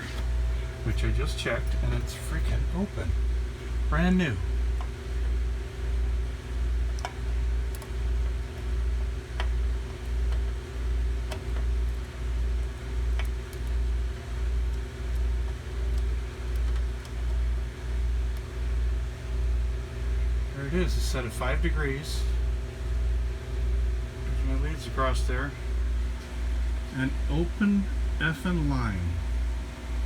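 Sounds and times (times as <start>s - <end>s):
throbbing machinery hum: 0.0s - 30.0s.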